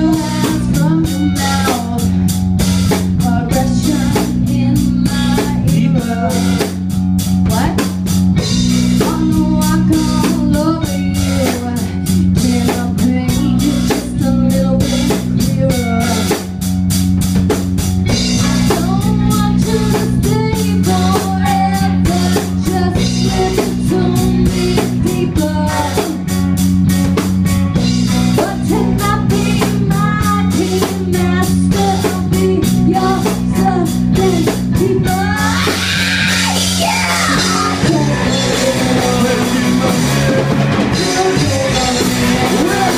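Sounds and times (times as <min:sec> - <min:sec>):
woman singing: 0:00.0 - 0:06.8, 0:07.4 - 0:08.0, 0:08.8 - 0:16.5, 0:18.4 - 0:26.4, 0:28.2 - 0:42.9
bass guitar: 0:00.0 - 0:42.9
drum kit fast beat: 0:00.0 - 0:42.9
electric guitar: 0:00.0 - 0:42.9.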